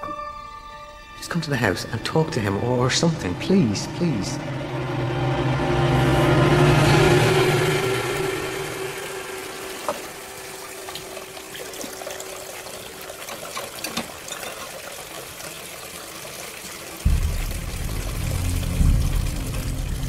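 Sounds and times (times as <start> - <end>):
water running: 1.2 - 20.0.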